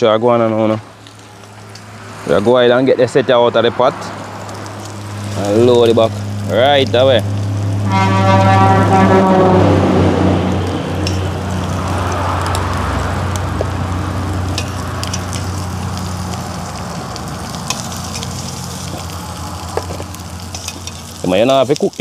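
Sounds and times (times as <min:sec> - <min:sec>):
shrimp sizzling in pot: 0:00.9 - 0:02.4, 0:04.0 - 0:22.0.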